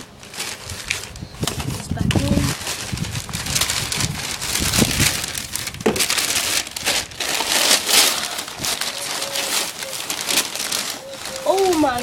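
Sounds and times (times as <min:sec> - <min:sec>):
packing paper rustling and crinkling: 0:00.0 - 0:12.0.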